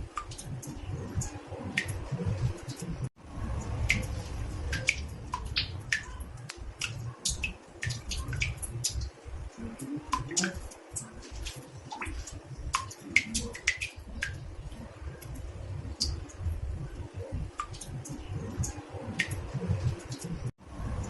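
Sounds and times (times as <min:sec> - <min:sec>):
water drops plinking in bathtub: 0:03.6 - 0:20.5.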